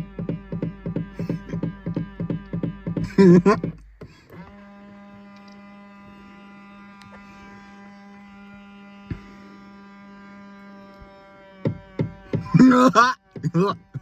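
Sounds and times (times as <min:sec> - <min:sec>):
mirror motor buzzing hum: 0:00.0 - 0:14.0.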